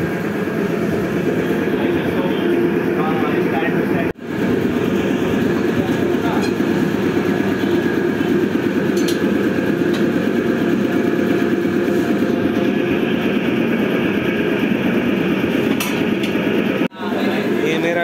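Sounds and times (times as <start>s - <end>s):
loud machine drone: 0.0s - 18.0s.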